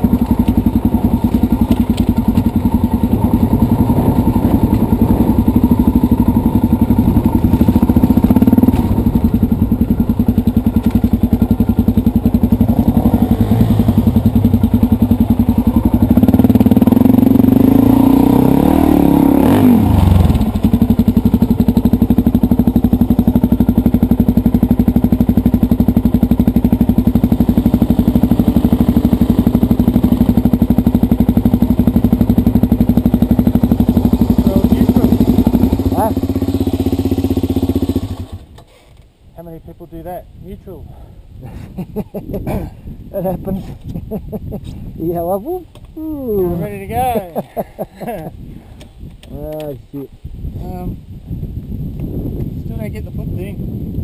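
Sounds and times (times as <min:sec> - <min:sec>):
dirt bike engine idling and revving: 0:00.0 - 0:38.7, 0:39.4 - 0:54.0.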